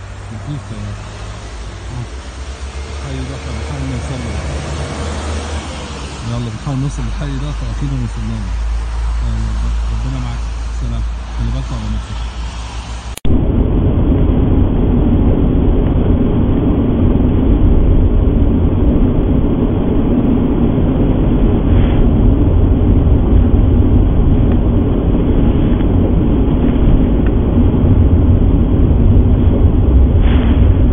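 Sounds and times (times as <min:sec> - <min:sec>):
car engine and tyres rumbling: 0:00.0 - 0:30.9.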